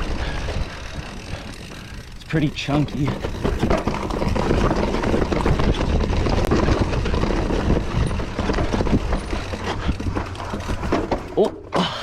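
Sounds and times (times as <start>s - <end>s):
bike clattering and rattling: 0.0s - 12.0s
tyres rumbling on rock: 0.0s - 12.0s.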